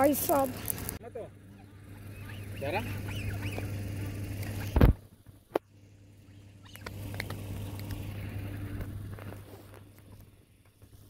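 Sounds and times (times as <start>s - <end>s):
birds pecking grain: 0.0s - 11.0s
steady low hum: 0.0s - 11.0s.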